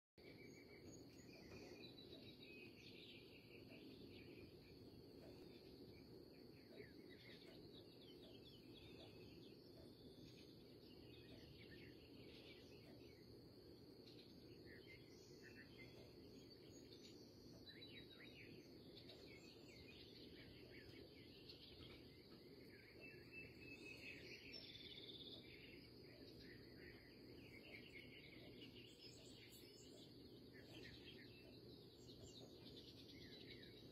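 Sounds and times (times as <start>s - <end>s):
insect drone: 0.2s - 33.9s
low background hum: 0.2s - 33.9s
small birds chirping: 0.2s - 33.9s.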